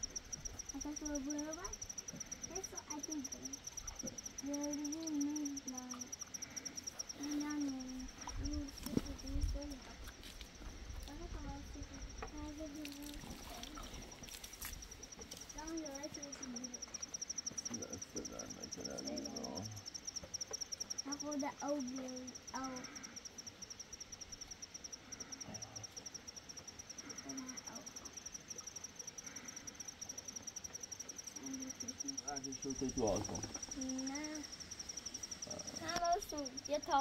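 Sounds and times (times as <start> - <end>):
high-pitched insect trill: 0.0 - 37.0.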